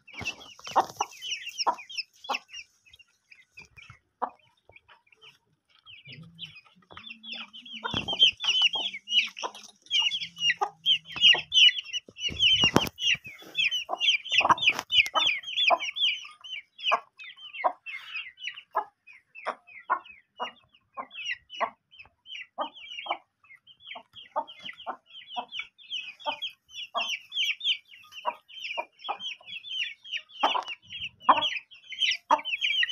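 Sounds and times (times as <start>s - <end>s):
chicks peeping: 0.0s - 32.9s
hens clucking: 0.0s - 32.9s.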